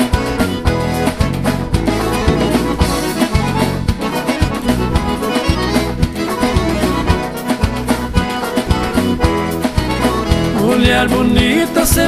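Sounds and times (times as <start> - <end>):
accordion dance music: 0.0 - 11.7
bass and guitar beat: 0.1 - 12.0.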